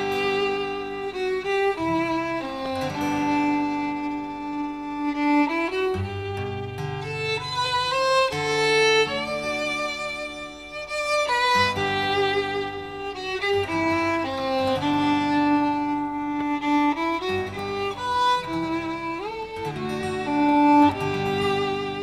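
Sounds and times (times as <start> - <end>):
violin slow melody: 0.0 - 22.0.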